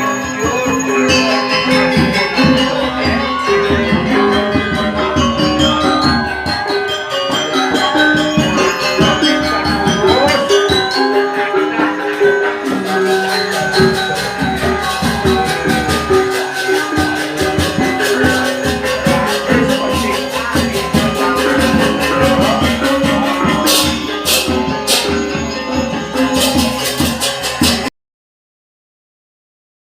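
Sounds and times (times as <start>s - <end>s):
gamelan metal notes: 0.0s - 27.9s
small cymbals clashing: 0.2s - 27.9s.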